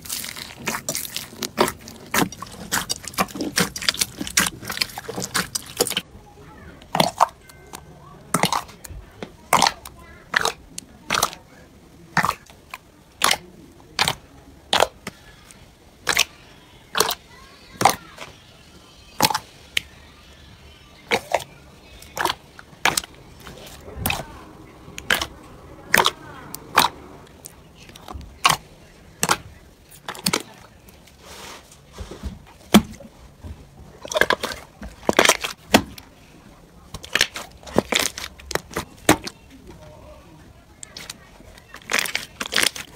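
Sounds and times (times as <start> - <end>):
slime squelching: 0.0 - 42.9.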